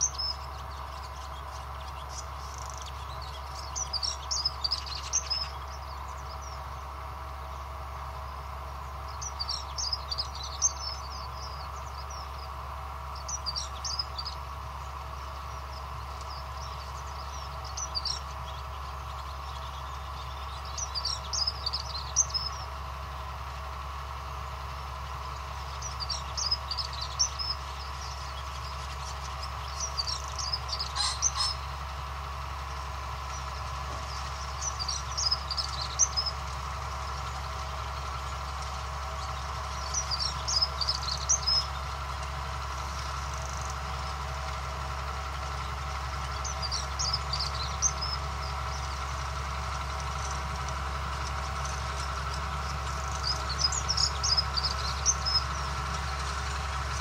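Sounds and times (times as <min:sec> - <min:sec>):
distant tractor engine drone: 0:00.0 - 0:57.0
songbird singing: 0:00.0 - 0:57.0.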